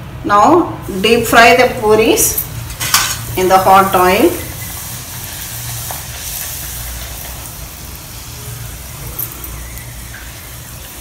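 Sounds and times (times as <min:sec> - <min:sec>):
food sizzling in hot oil: 0:00.8 - 0:11.0.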